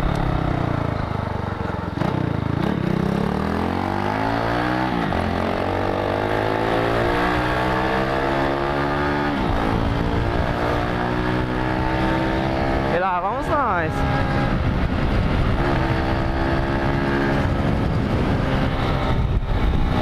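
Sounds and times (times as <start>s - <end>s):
motorcycle accelerating through gears: 0.0s - 20.0s.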